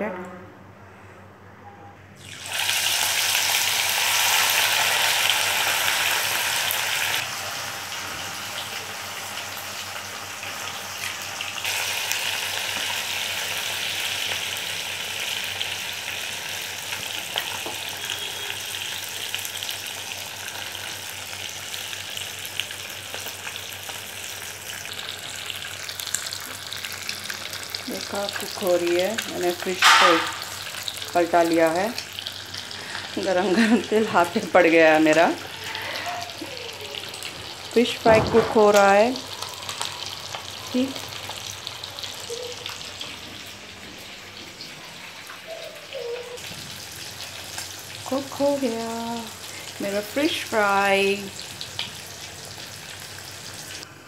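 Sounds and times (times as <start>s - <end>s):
fish sizzling in hot oil: 2.2s - 53.9s.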